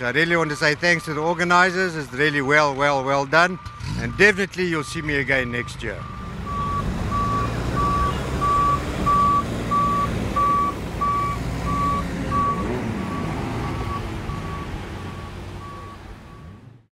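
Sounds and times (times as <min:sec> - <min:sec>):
tractor engine rumble: 0:00.0 - 0:16.8
reversing alarm beeping: 0:00.2 - 0:16.6.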